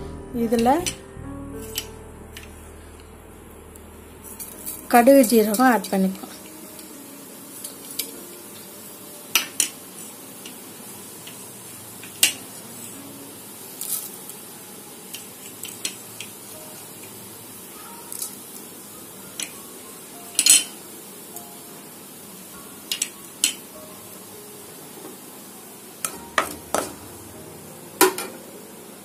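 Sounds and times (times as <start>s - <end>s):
oil sizzling: 0.0s - 29.0s.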